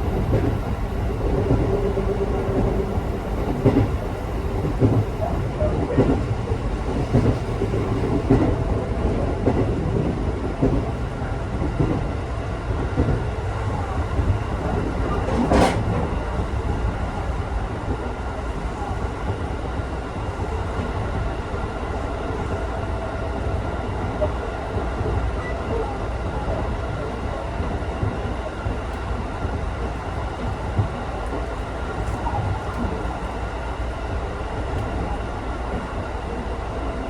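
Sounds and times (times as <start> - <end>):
train rumbling inside carriage: 0.0 - 37.0.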